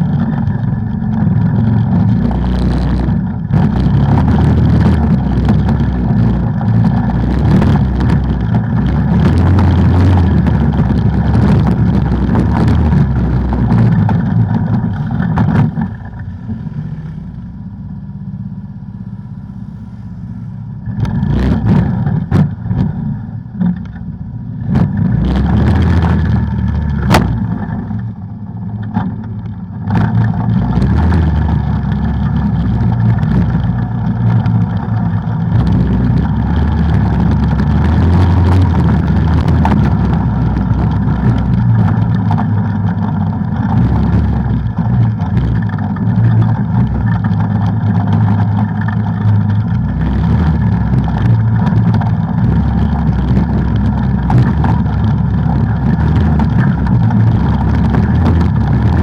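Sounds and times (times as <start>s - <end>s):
off-road vehicle engine droning: 0.0s - 59.0s.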